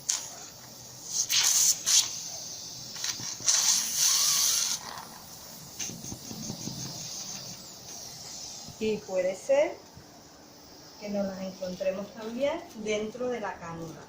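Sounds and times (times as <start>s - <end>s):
suction catheter hissing and sputtering: 0.0s - 12.8s.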